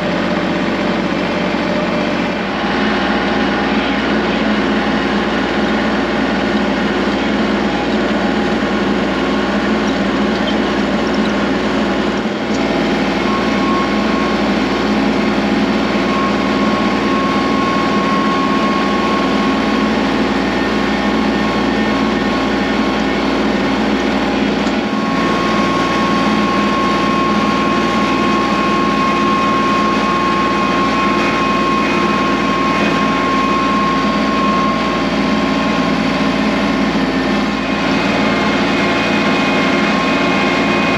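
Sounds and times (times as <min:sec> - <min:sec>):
engine running steadily: 0:00.0 - 0:40.9
thin high whine: 0:02.3 - 0:40.9.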